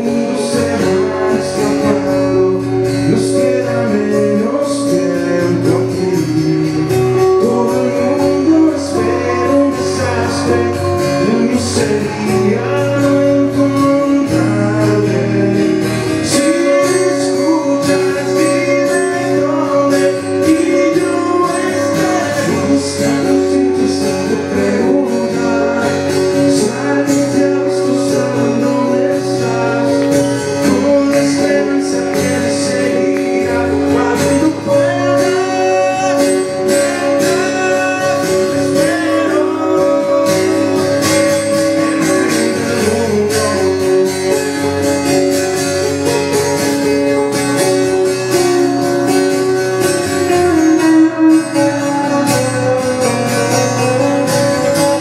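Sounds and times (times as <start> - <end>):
electric guitar playing: 0.0 - 55.0
man singing: 0.0 - 55.0
strummed acoustic guitar: 0.0 - 55.0.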